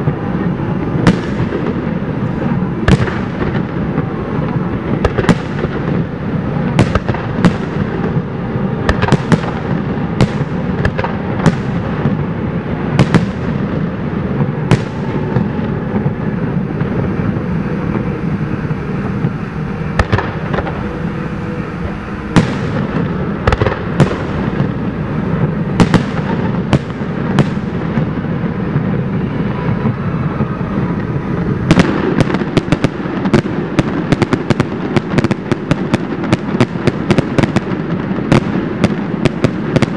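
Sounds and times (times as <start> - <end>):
continuous low rumble: 0.0 - 39.9
fireworks bursting: 0.0 - 39.9.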